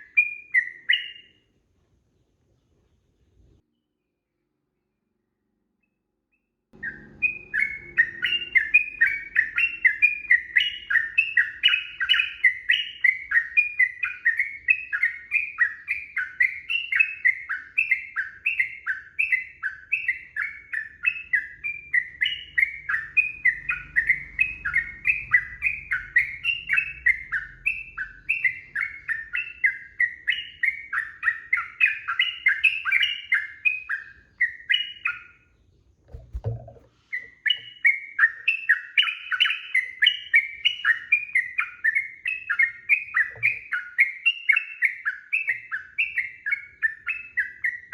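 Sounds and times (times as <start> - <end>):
bird rapid chirping song: 0.0 - 1.5, 6.8 - 47.9.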